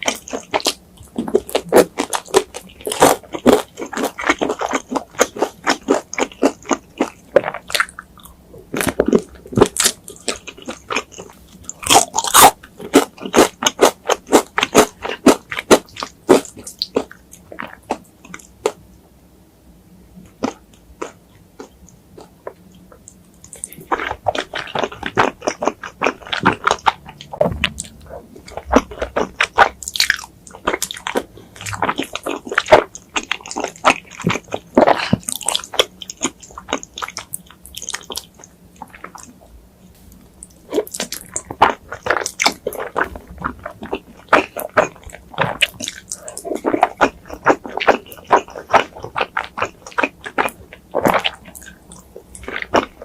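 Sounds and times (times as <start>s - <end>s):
person chewing crunchy food: 0.0s - 18.9s, 20.2s - 53.0s.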